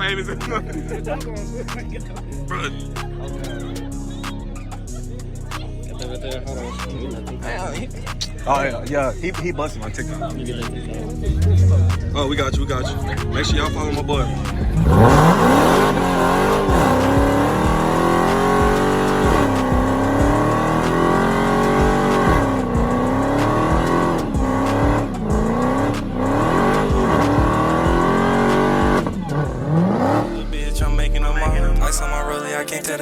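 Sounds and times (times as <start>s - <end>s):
car engine revving: 0.0s - 32.3s.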